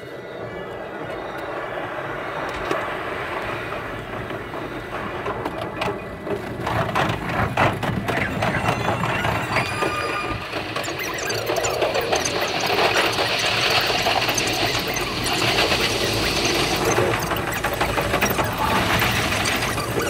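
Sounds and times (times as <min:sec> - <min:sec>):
train rattling: 0:00.0 - 0:20.0
rapid clicks and knocks: 0:02.5 - 0:20.0.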